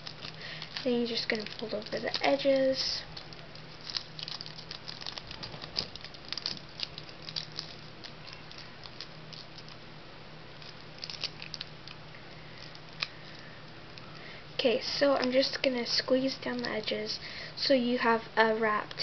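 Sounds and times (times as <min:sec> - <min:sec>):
aluminium foil crinkling: 0:00.0 - 0:09.8, 0:10.5 - 0:17.3
low steady hum: 0:00.0 - 0:19.0.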